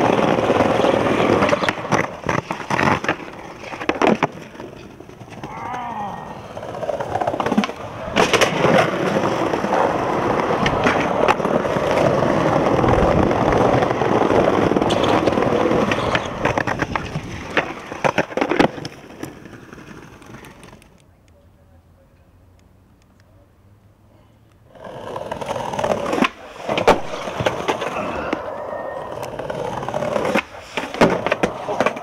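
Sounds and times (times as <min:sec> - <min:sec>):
skateboard hitting ground: 0:00.0 - 0:05.6, 0:06.5 - 0:21.0, 0:24.8 - 0:32.0
skateboard grinding on concrete: 0:00.0 - 0:21.0, 0:24.7 - 0:32.0
skateboard wheels rolling: 0:00.0 - 0:21.1, 0:24.6 - 0:32.0.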